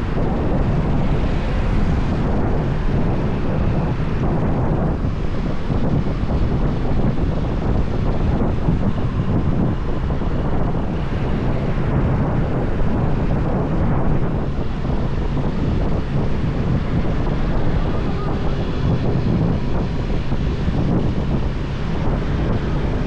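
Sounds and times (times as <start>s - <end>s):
motorbike engine rumble: 0.0s - 23.0s
road noise: 0.0s - 23.0s
wind rush on microphone: 0.0s - 23.0s.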